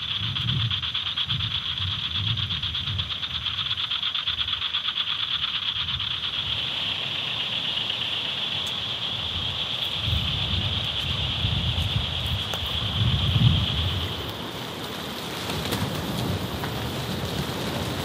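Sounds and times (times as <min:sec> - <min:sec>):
insects and frogs trilling: 0:00.0 - 0:18.0.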